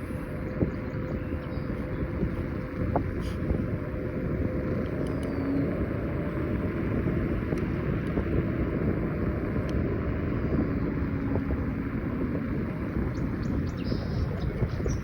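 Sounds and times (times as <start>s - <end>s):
faint steady whine: 0.0s - 15.0s
road and tyre noise: 0.0s - 15.0s
wind rushing over microphone: 0.0s - 15.0s.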